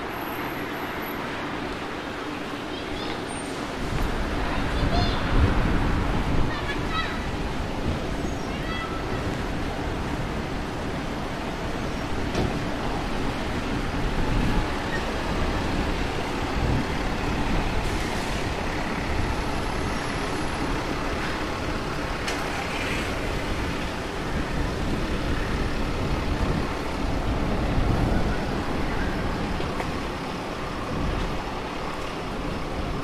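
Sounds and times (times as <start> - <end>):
passing vehicles: 0.0 - 33.0.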